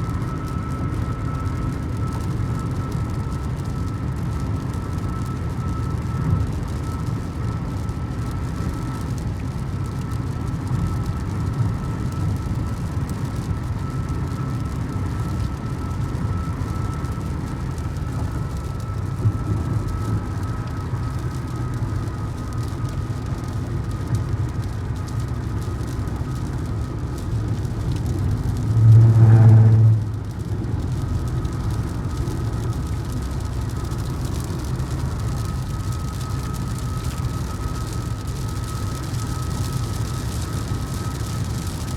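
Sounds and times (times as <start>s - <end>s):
faint steady whine: 0.0s - 41.9s
low buzzing tone: 0.0s - 41.9s
road and engine rumble: 0.0s - 41.9s.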